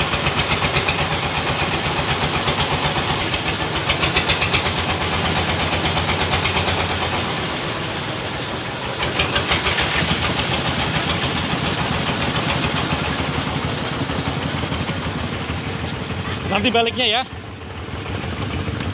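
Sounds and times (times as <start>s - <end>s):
engine idling with rhythmic chug: 0.0s - 18.9s.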